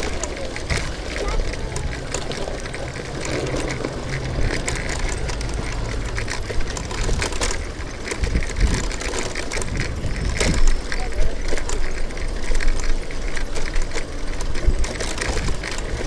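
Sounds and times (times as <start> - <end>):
bicycle clicks and rattles: 0.0 - 16.0
road and traffic rumble: 0.0 - 16.0.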